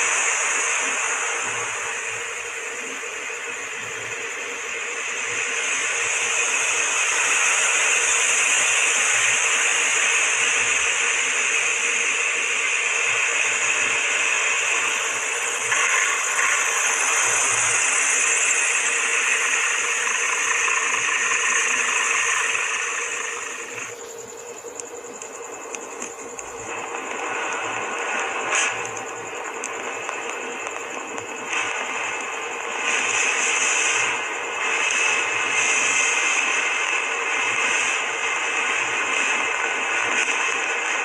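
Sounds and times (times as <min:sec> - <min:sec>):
jet engines rushing: 0:00.0 - 0:41.0
steady underlying hum: 0:00.0 - 0:41.0.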